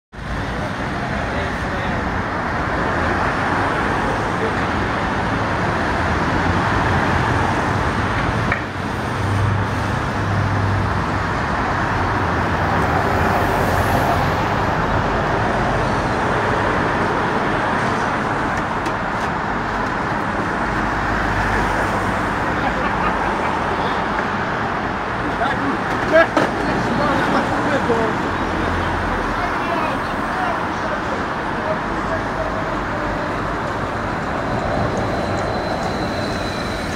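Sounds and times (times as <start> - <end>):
bus passing close by: 0.2 - 36.9
cars driving past: 0.2 - 36.9.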